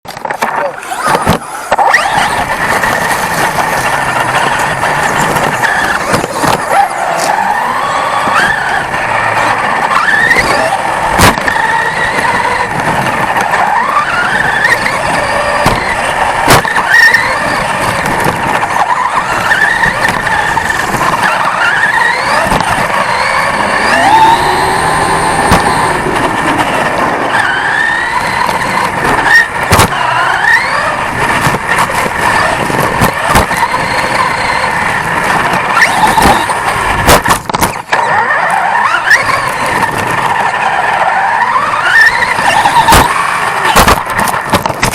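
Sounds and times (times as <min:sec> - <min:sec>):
rc truck motor whine: 0:00.1 - 0:44.9
tyres rushing on dirt: 0:00.1 - 0:44.9.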